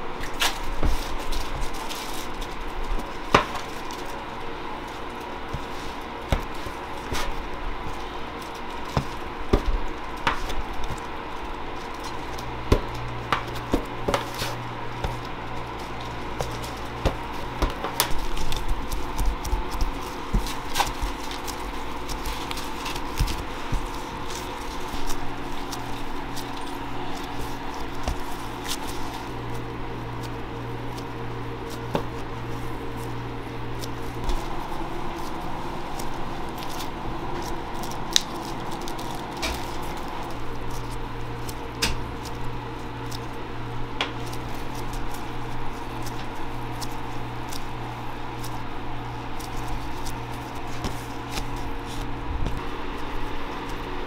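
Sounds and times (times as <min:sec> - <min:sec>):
dough squishing: 0:00.0 - 0:54.0
kitchen machinery hum: 0:00.0 - 0:54.0.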